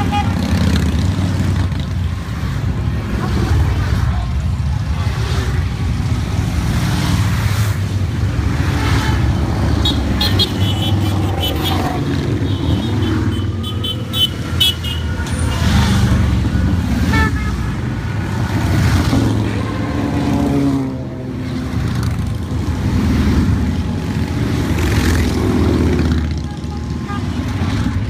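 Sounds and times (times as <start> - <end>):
motorcycles passing and revving: 0.0 - 28.0.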